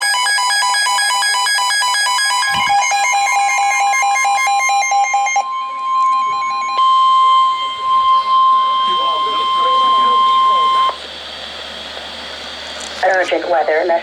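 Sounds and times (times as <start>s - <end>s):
weather radio alert tones: 1.0s - 14.0s.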